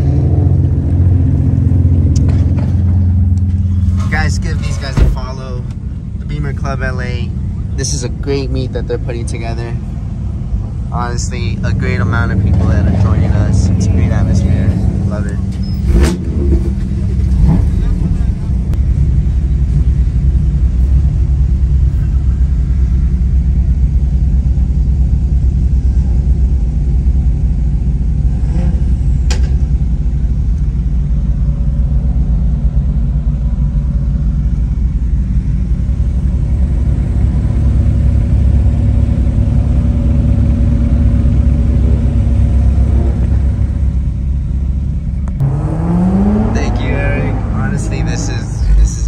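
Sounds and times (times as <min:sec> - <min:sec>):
car engine and exhaust rumbling: 0:00.0 - 0:49.0.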